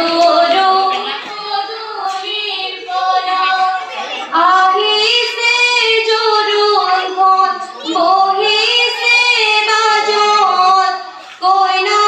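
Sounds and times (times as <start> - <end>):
girls singing into microphones: 0.0 - 12.0.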